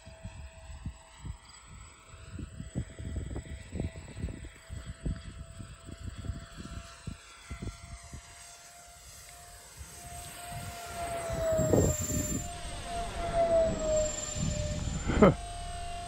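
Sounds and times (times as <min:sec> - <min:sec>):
electric fan whine of model plane: 0:00.0 - 0:16.0.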